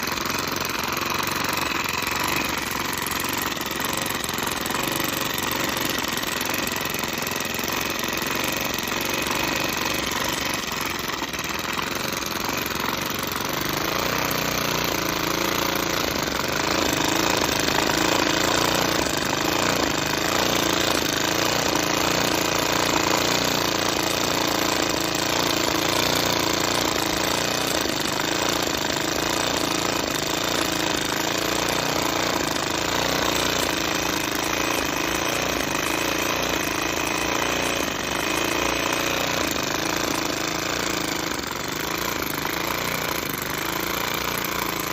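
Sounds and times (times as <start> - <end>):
miniature steam engine running: 0.0 - 44.9.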